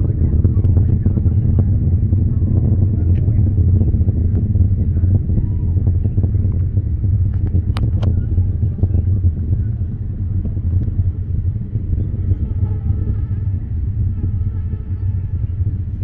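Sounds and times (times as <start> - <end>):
distant rocket engine rumble: 0.0 - 16.0.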